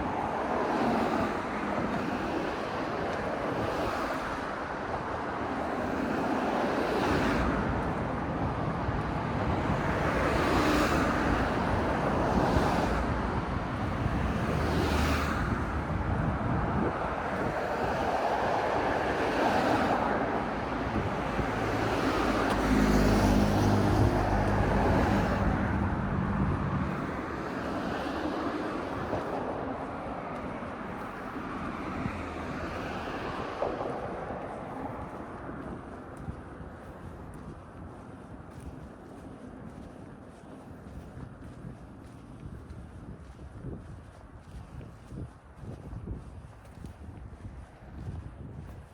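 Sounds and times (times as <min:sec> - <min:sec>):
cars passing on a street: 0:00.0 - 0:48.9
vehicle engine hum: 0:07.4 - 0:48.2.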